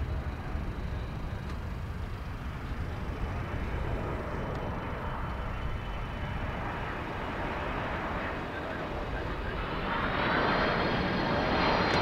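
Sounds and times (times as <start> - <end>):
jet engine rumble with whine: 0.0 - 12.0.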